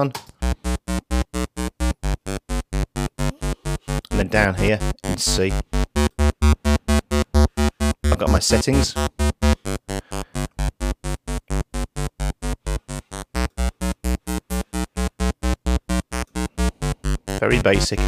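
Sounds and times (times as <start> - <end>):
staccato synth bass notes: 0.4 - 18.0.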